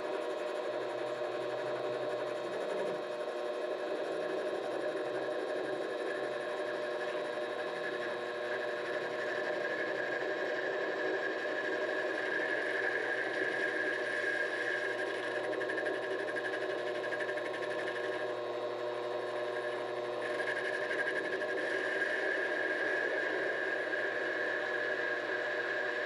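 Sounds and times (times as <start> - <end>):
lathe motor and gear whine: 0.0 - 26.0.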